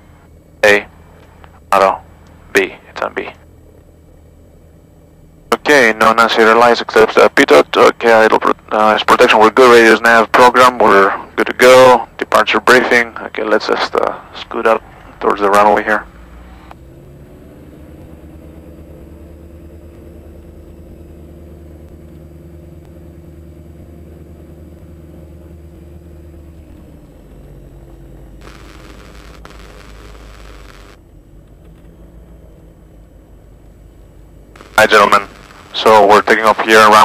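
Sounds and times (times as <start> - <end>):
aircraft engines droning: 0.0 - 37.0.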